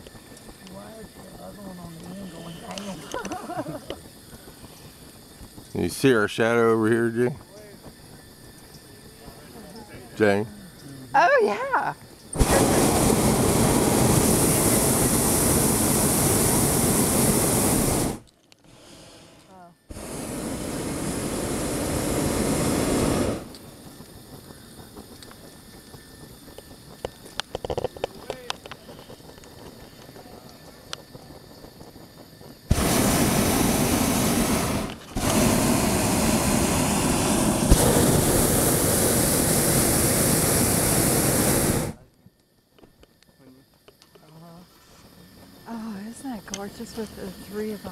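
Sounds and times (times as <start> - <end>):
propane burner roaring: 0.0 - 47.9.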